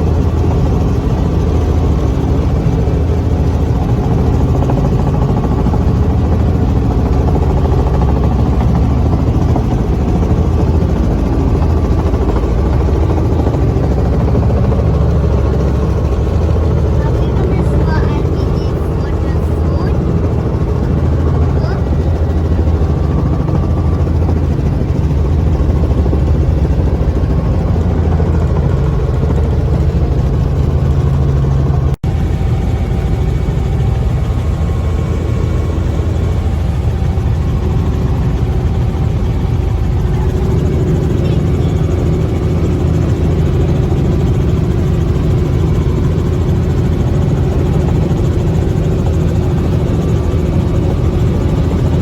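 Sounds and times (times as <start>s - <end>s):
helicopter engine and rotor drone: 0.0s - 52.0s.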